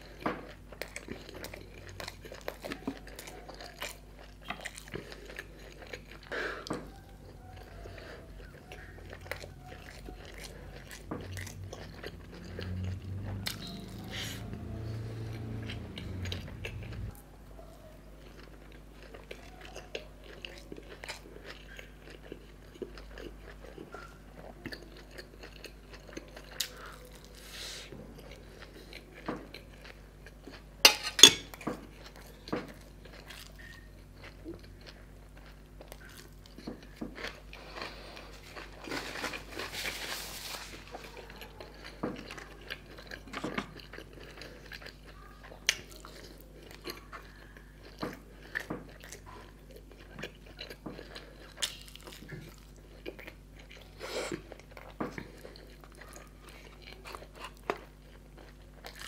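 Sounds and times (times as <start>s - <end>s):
chewing and biting food: 0.0s - 59.0s
faint steady hum: 0.0s - 59.0s.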